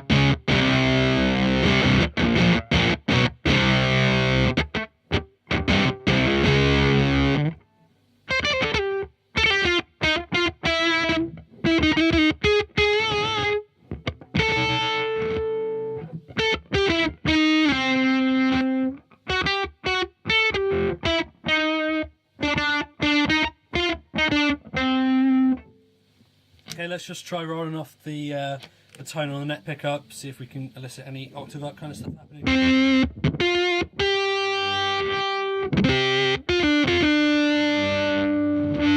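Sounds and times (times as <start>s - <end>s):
fuzzed electric guitar: 0.0s - 26.8s, 31.8s - 38.9s.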